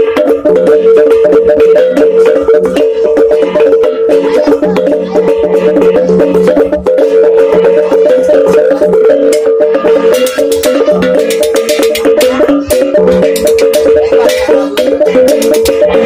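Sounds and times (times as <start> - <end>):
fast percussion music: 0.0 - 16.0
quick knocking beat: 0.0 - 16.0
ringing pitched tones: 0.0 - 16.0.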